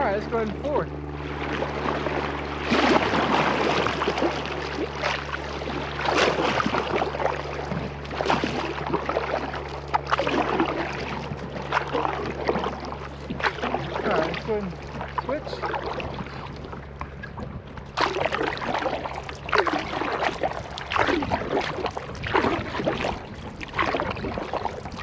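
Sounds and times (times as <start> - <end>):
low hum: 0.0 - 25.0
paddle splashing: 0.0 - 25.0
water washing along hull: 0.0 - 25.0.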